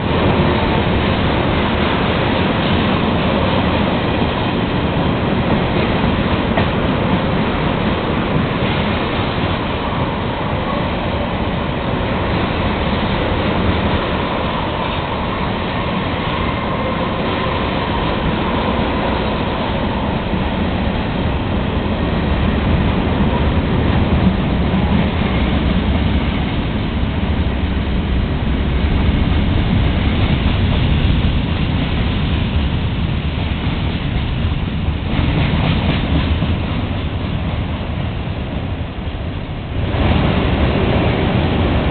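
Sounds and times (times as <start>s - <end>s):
freight train rolling past: 0.0s - 41.9s
steel wheels on rail: 0.0s - 41.9s.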